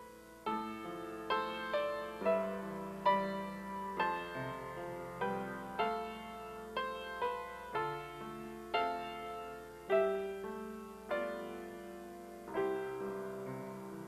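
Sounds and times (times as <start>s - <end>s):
piano playing gentle chords: 0.0s - 14.0s.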